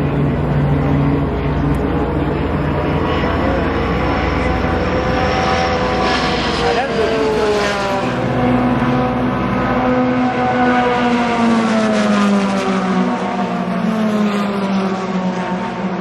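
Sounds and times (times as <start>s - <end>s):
race car engine passing: 0.0s - 16.0s.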